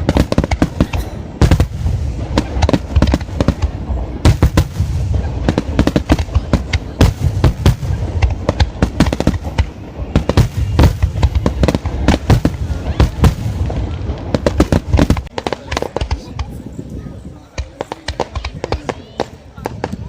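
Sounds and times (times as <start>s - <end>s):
fireworks cracking and booming: 0.0s - 20.0s.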